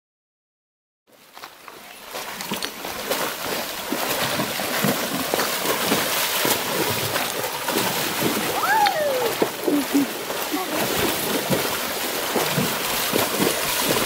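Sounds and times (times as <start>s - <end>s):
horse splashing through water: 1.1s - 14.0s.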